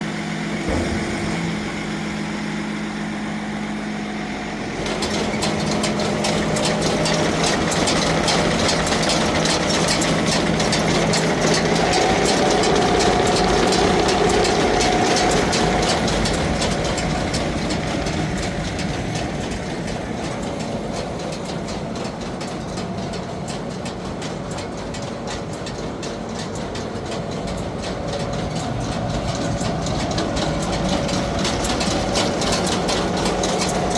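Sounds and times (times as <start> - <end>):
fast rhythmic mechanical noise: 0.0 - 33.9
heavy tractor engine running: 0.0 - 33.9.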